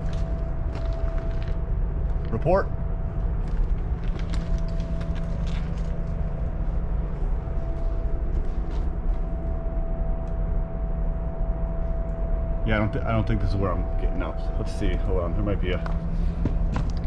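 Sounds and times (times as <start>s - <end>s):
faint hum tone: 0.0s - 17.0s
low rumble: 0.0s - 17.0s.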